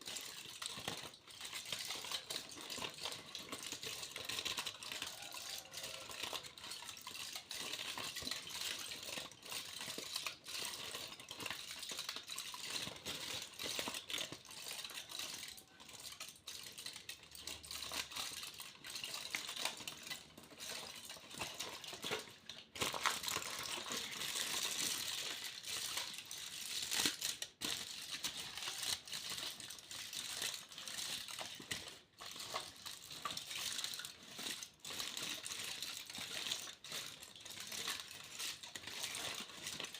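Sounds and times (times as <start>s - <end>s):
foil crinkling and crackling: 0.0s - 39.9s.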